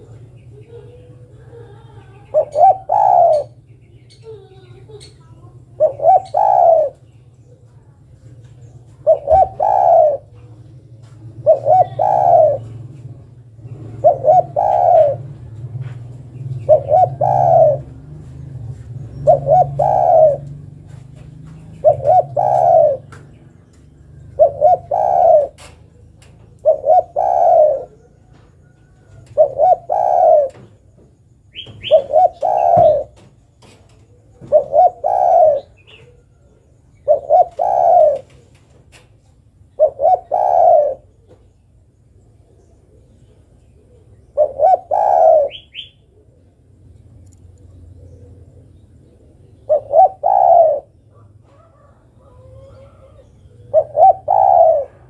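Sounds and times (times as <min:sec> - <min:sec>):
dove cooing: 0:00.0 - 0:07.8, 0:08.5 - 0:41.7, 0:42.3 - 0:55.0.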